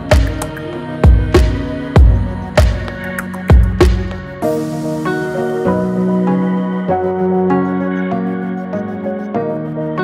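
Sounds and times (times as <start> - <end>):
slow held chords music: 0.0 - 10.0.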